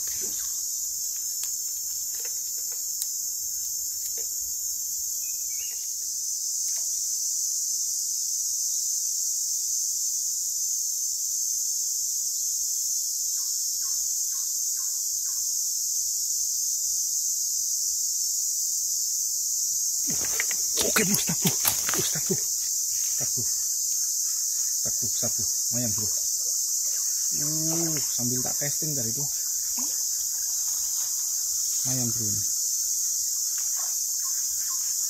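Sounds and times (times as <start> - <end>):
insect chorus drone: 0.0 - 35.0.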